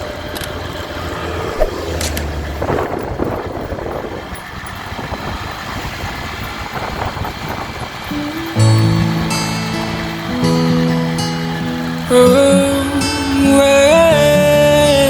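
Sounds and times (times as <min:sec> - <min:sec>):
motorcycle engine humming: 0:00.0 - 0:15.0
road and wind noise: 0:00.0 - 0:15.0.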